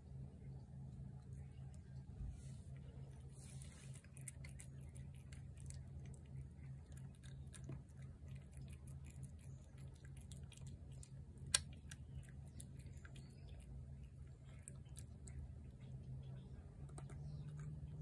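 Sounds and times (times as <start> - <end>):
steady low hum: 0.0 - 18.0
cat chewing food: 0.8 - 18.0.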